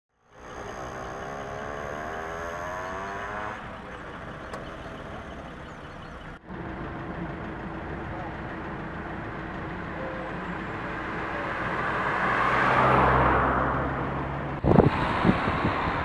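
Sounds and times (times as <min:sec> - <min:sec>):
traffic rumble: 0:00.2 - 0:16.0
vehicle engine rising in pitch: 0:00.2 - 0:16.0.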